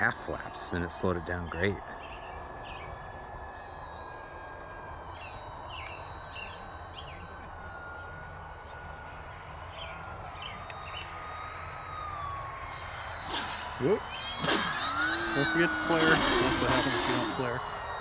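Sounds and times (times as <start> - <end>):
model plane motor whining: 0.0 - 18.0.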